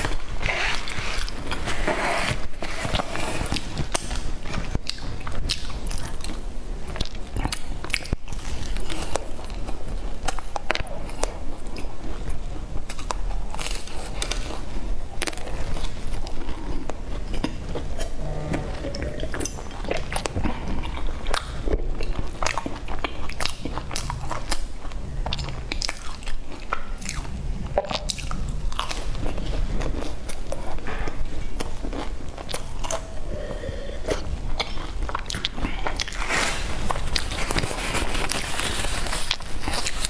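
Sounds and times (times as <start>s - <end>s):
chewing crispy pastry: 0.0s - 40.0s.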